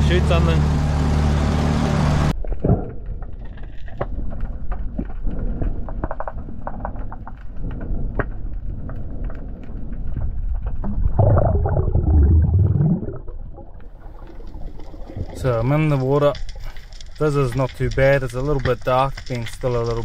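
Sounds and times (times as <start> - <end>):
low rumble: 1.8 - 20.0
underwater water noise: 2.4 - 19.3
underwater clicks and crackles: 2.4 - 20.0.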